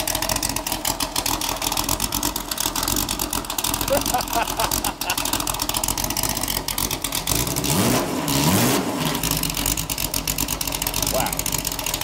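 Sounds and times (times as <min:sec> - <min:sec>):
race car engine idling and revving: 0:00.0 - 0:12.0.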